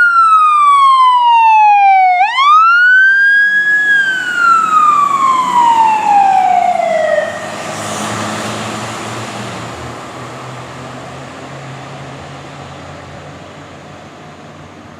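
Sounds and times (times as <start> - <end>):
fire engine siren: 0.0 - 14.6
truck engine and road noise: 0.0 - 14.9.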